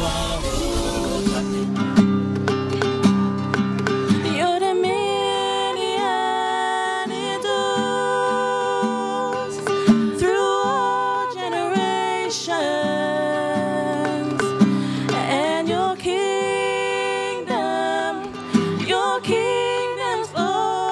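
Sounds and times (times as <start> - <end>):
plucked string instrument: 0.0 - 20.9
woman singing slow song: 4.1 - 20.9.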